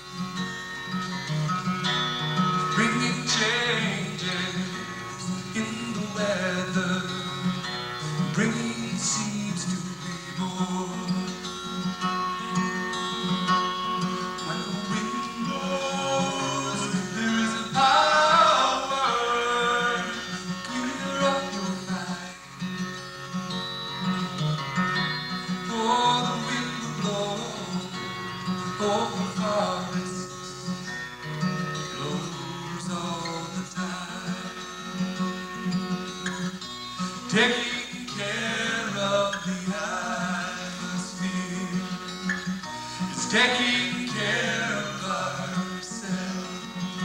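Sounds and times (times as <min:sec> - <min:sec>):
lap slide guitar: 0:00.0 - 0:47.0
strummed acoustic guitar: 0:00.0 - 0:47.0.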